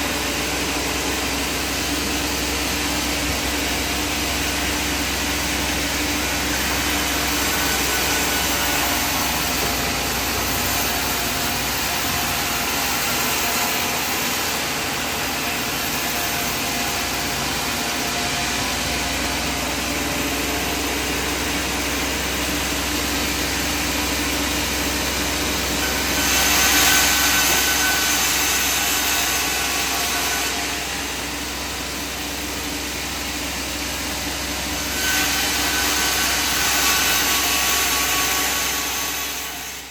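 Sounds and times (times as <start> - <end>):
saw cutting through timber: 0.0 - 39.9
sawmill machinery running: 0.0 - 39.9.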